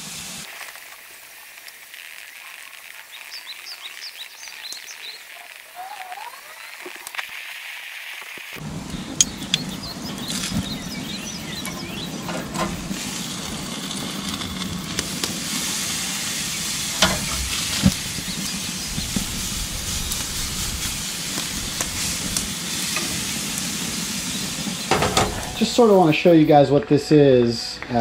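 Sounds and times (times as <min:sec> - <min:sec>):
meat sizzling on a hot grill: 0:00.0 - 0:25.9.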